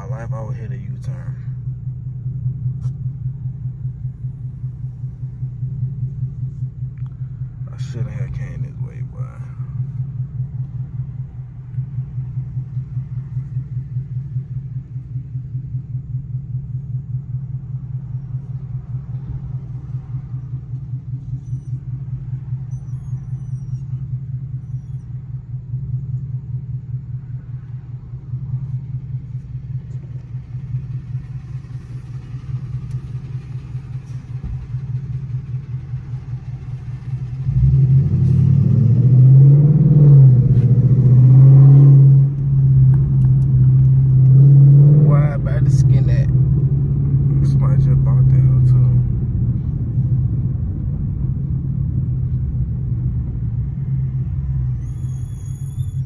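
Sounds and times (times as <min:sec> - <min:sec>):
car engine accelerating: 0:00.0 - 0:56.0
car exhaust rumble from cabin: 0:00.0 - 0:56.0.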